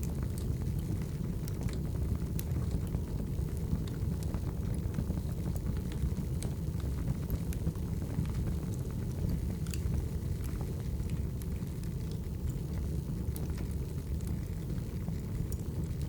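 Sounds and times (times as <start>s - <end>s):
burning logs popping and snapping: 0.0s - 16.0s
fire low rumble: 0.0s - 16.0s.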